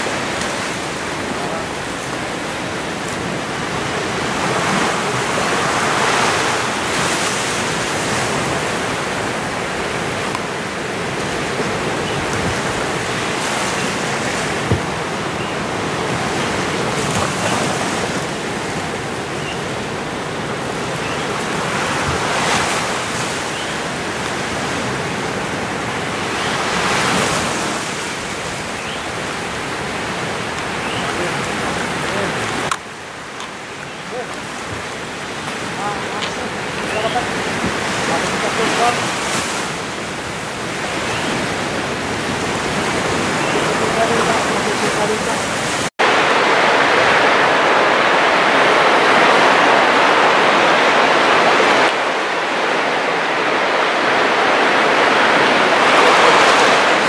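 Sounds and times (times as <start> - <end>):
underwater water rushing: 0.0 - 57.0.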